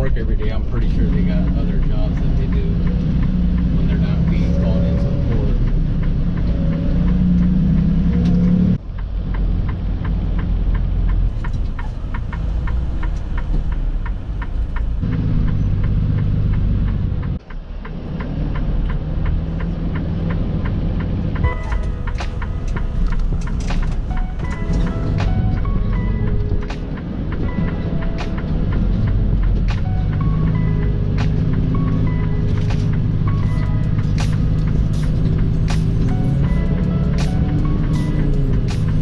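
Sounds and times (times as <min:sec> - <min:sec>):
truck engine and road noise: 0:00.0 - 0:39.0.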